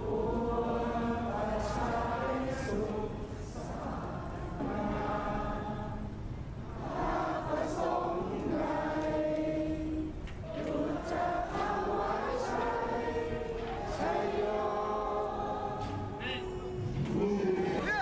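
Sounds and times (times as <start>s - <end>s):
large crowd singing: 0.0s - 18.0s.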